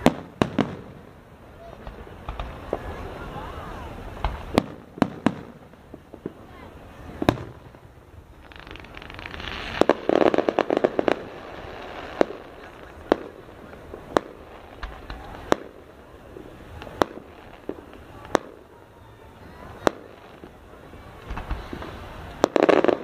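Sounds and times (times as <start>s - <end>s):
fireworks bangs: 0.0s - 23.0s
fireworks crackling pops: 0.0s - 23.0s.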